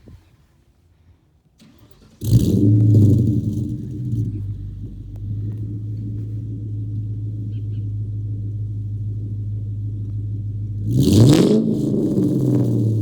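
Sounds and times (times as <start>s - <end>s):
car engine starting and idling: 1.5s - 13.0s.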